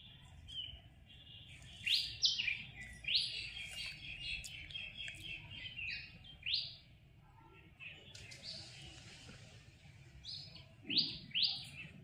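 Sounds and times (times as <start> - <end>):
bird chirping: 0.0 - 9.2, 10.2 - 12.0.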